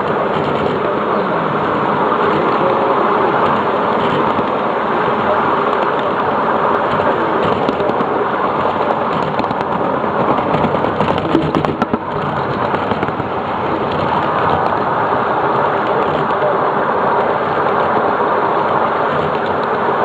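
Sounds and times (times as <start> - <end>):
train rumble and rattle: 0.0 - 20.0
wheels clicking and clattering: 0.0 - 20.0.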